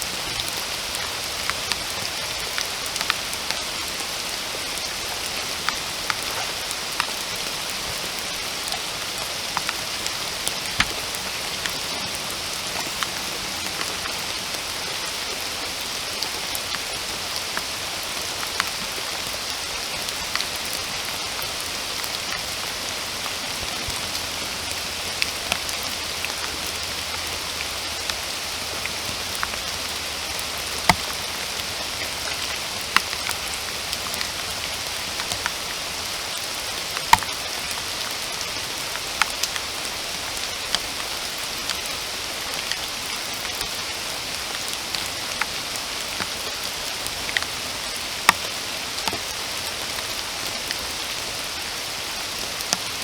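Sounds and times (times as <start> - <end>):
raindrops tapping close by: 0.0 - 53.0
steady rain hiss: 0.0 - 53.0.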